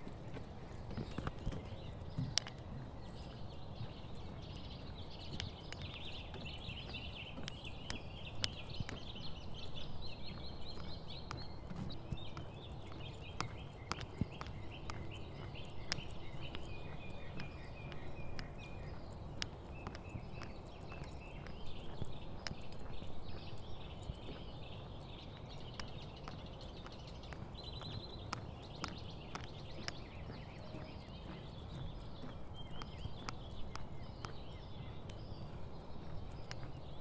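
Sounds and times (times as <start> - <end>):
footsteps on wooden boardwalk: 0.0 - 37.0
small birds chirping: 0.0 - 37.0.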